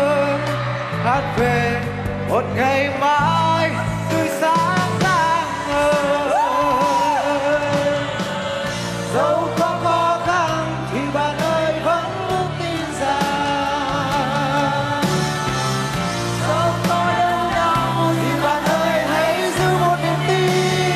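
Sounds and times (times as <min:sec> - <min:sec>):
live pop band: 0:00.0 - 0:20.9
people singing into microphones: 0:00.0 - 0:20.9.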